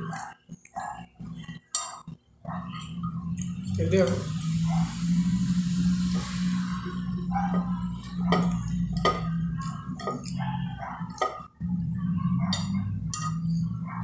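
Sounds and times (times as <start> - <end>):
fork scraping glass plate: 0.2 - 13.9.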